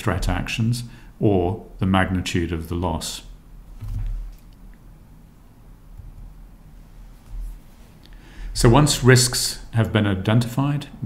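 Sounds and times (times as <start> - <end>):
faint hiss: 0.0 - 11.0
steady low hum: 0.0 - 11.0.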